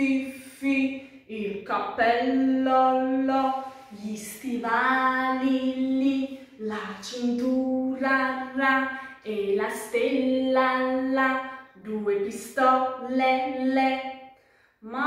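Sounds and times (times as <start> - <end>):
woman singing unaccompanied: 0.0 - 14.0.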